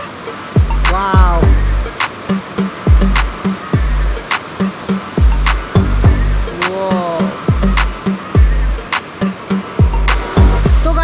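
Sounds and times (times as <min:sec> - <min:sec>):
beat with bass kicks and snare: 0:00.0 - 0:11.0
gliding melody line: 0:00.0 - 0:11.0.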